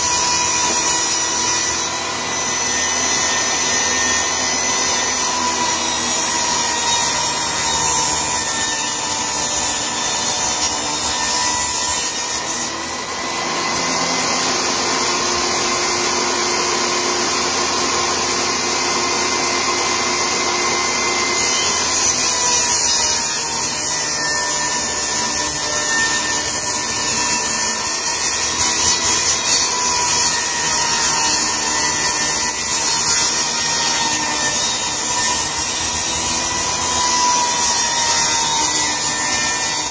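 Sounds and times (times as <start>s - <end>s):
saw blade cutting wood: 0.0s - 39.9s
table saw motor whine: 0.0s - 39.9s.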